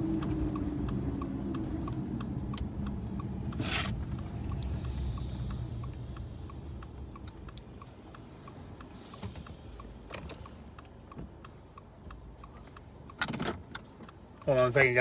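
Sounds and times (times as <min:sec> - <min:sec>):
car indicator ticking: 0:00.0 - 0:15.0.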